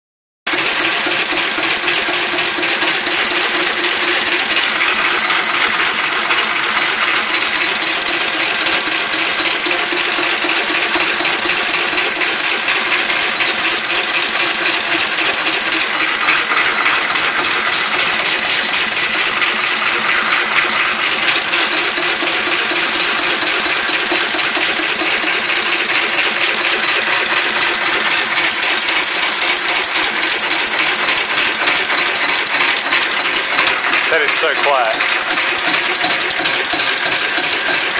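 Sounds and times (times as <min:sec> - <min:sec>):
diesel engine clattering: 0:00.5 - 0:37.9.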